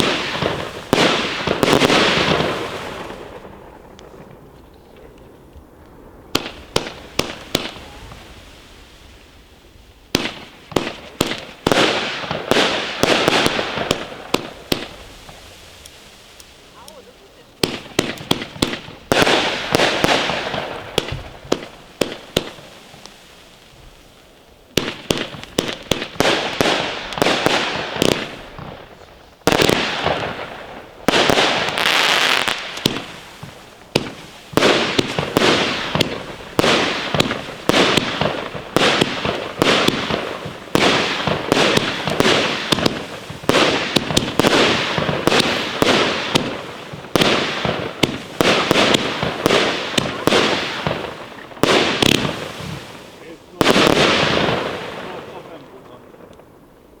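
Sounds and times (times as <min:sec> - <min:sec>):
firework cake shots and crackling: 0:00.0 - 0:57.0
firework shots with crackling tail: 0:00.0 - 0:57.0.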